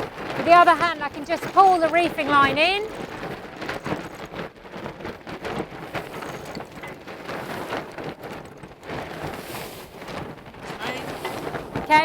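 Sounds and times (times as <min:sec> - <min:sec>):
sail rustling and knocking: 0:00.0 - 0:12.0
water noise: 0:00.0 - 0:12.0
wind: 0:00.0 - 0:12.0.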